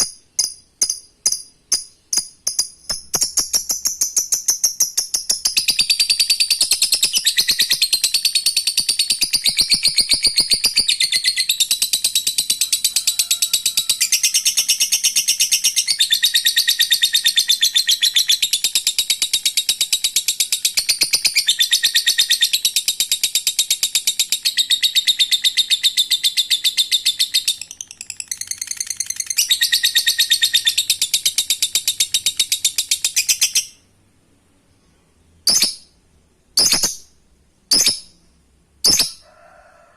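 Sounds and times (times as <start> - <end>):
lovebird chattering trill: 2.4 - 33.8, 36.6 - 37.1, 38.8 - 39.2.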